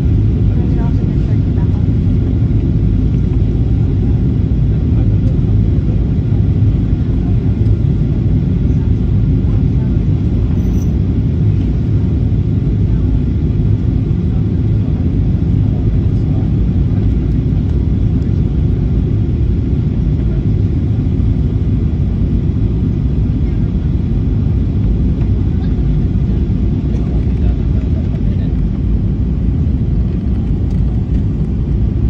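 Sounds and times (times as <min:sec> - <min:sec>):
airplane cabin low rumble: 0:00.0 - 0:32.0.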